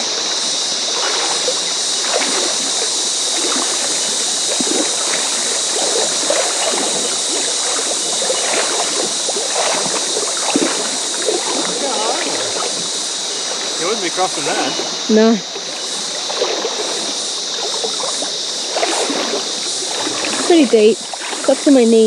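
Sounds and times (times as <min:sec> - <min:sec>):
creek water babbling: 0:00.0 - 0:22.0.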